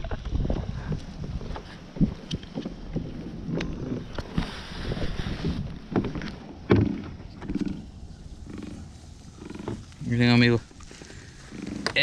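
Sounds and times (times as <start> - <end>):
knocks and bumps in a canoe: 0.0 - 8.8, 10.7 - 12.0.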